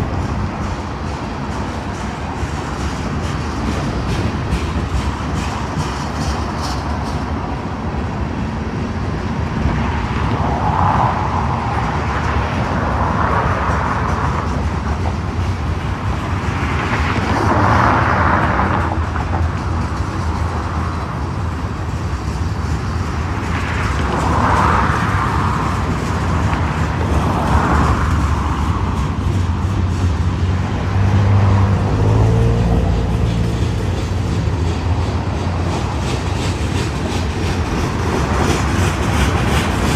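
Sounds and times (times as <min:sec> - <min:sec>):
rushing noise: 0:00.0 - 0:39.9
train wheels rumbling on rail: 0:00.0 - 0:39.9.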